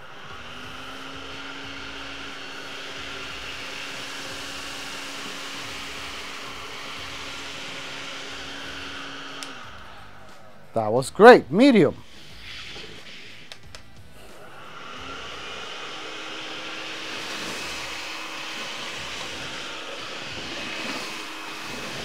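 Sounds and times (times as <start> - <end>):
stick vacuum running: 0.0 - 22.0.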